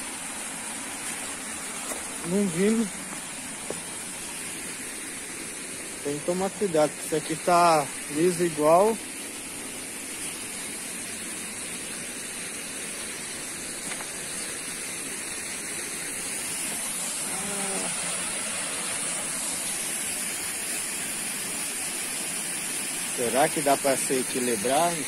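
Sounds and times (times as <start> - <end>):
waterfall rushing over rock: 0.0 - 25.0.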